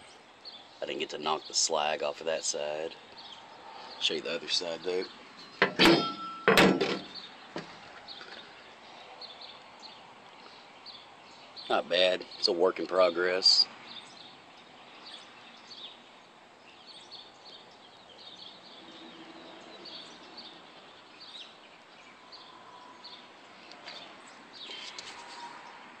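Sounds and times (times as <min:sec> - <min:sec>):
small birds chirping: 0:00.0 - 0:05.6, 0:07.0 - 0:26.0.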